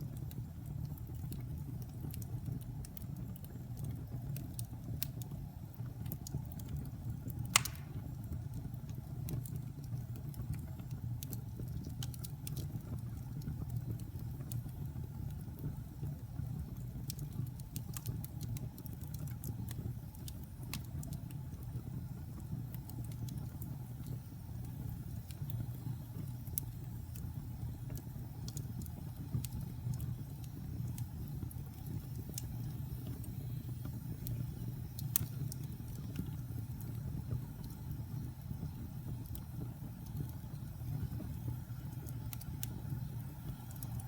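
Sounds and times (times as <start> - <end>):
fire crackling and popping: 0.0 - 44.0
flames rumbling: 0.0 - 44.0.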